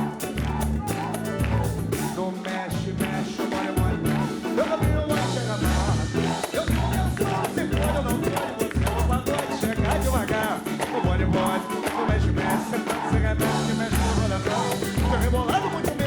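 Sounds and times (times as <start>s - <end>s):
live samba band playing: 0.0s - 16.0s.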